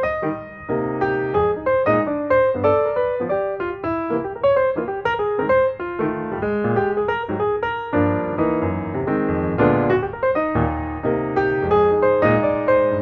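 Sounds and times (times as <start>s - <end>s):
background piano music: 0.0s - 13.0s.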